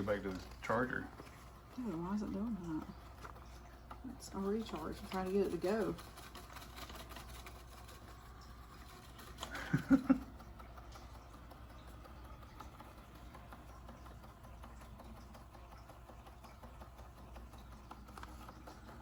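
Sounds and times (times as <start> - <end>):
robot vacuum cleaner running: 0.0 - 19.0.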